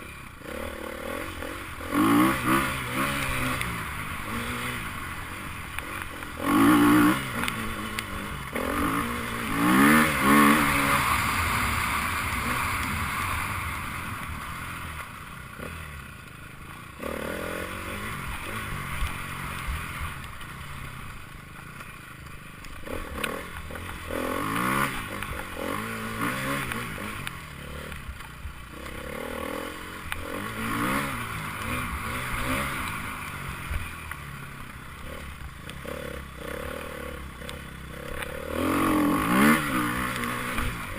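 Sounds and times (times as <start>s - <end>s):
motorcycle engines revving and passing: 0.0s - 40.9s.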